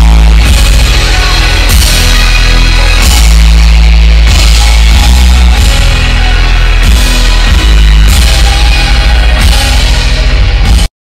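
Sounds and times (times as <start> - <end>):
loud live rock music: 0.0 - 10.9.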